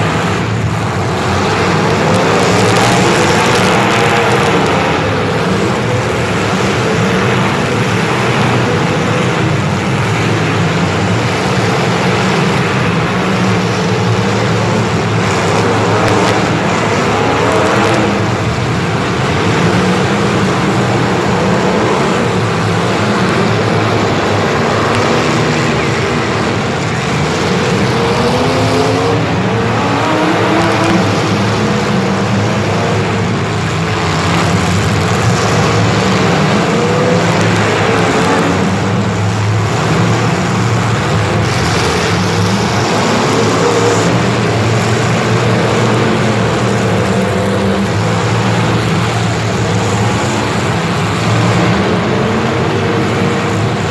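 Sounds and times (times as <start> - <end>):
vehicle engines revving: 0.0 - 53.9.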